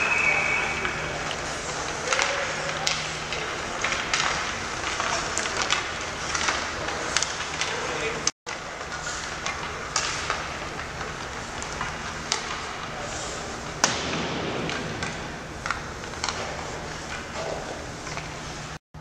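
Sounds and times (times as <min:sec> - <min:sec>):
hockey sticks and pucks clacking: 0:00.0 - 0:18.6
arena background noise: 0:00.0 - 0:18.8.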